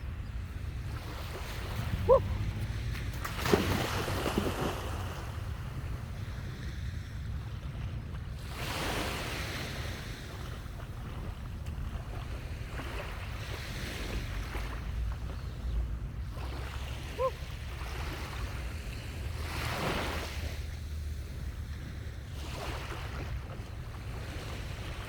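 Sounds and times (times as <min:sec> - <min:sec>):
sea waves washing ashore: 0:00.0 - 0:25.0
wind buffeting microphone: 0:00.0 - 0:25.0.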